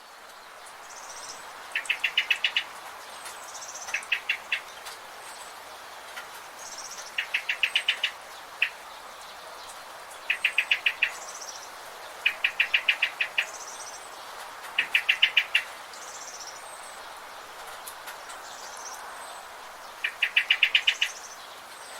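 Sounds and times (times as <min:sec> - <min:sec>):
background hiss: 0:00.0 - 0:21.9.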